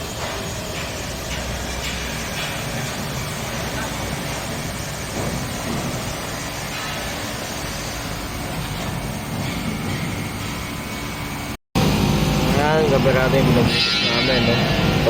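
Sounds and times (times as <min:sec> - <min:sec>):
mechanical running noise with hum: 0:00.0 - 0:13.6.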